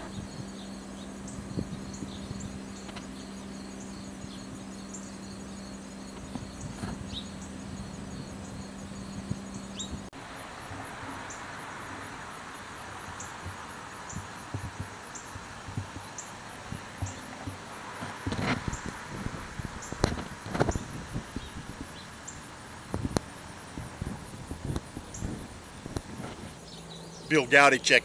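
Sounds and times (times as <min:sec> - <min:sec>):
insects chirping: 0:00.0 - 0:28.0
low steady hum: 0:00.0 - 0:28.0.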